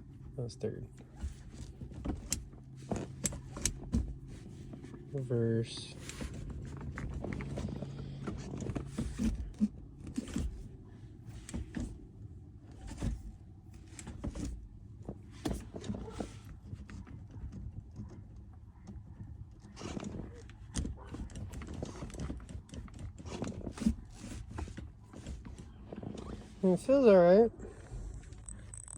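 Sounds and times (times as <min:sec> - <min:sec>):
gear shifter clicks and clunks: 0:00.0 - 0:28.9
low steady hum: 0:00.0 - 0:28.9.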